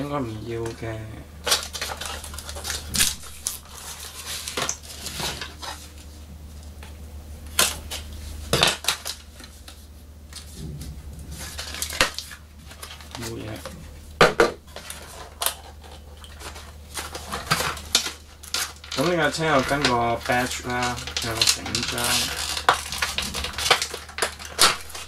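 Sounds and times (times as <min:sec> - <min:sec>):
steady low hum: 0:00.0 - 0:25.0
packaging being opened: 0:01.4 - 0:06.1, 0:07.5 - 0:10.7, 0:11.4 - 0:13.8, 0:14.7 - 0:25.0.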